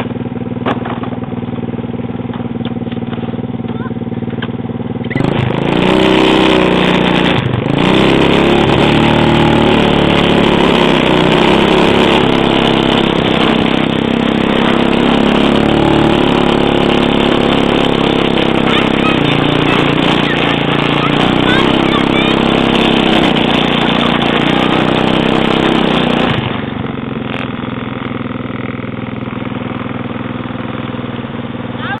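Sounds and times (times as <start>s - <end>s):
small engine revving: 0.0s - 32.0s.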